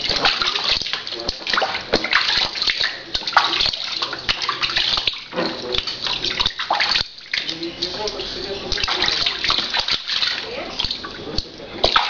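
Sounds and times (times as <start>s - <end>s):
water splashing in a baby bath: 0.0s - 12.0s.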